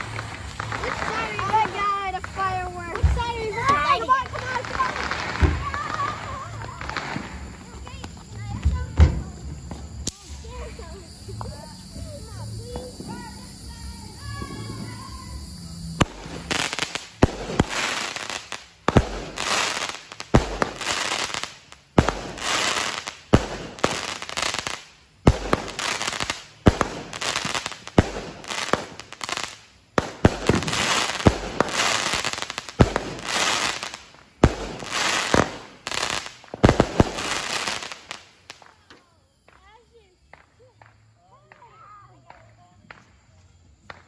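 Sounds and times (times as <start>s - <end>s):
firework bangs with crackling: 0.0s - 44.0s.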